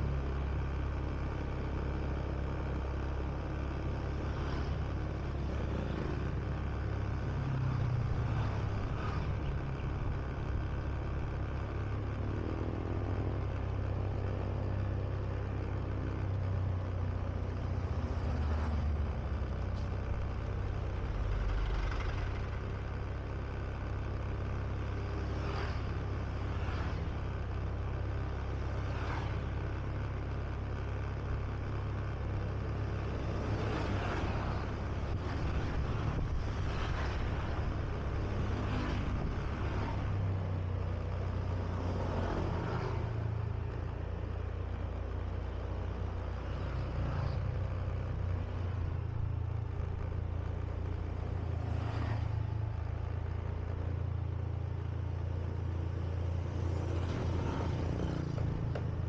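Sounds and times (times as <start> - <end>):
scooter engine running: 0.0 - 59.0.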